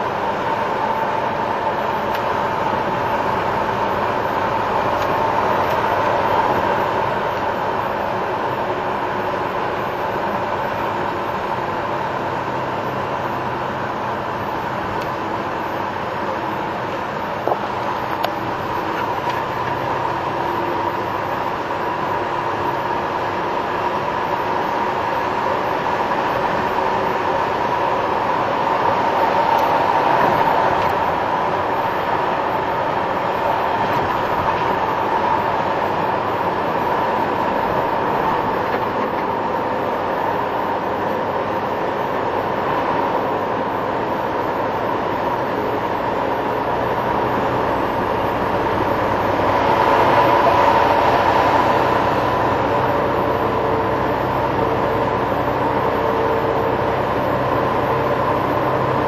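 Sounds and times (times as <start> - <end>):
truck engine and tyre noise: 0.0 - 59.0.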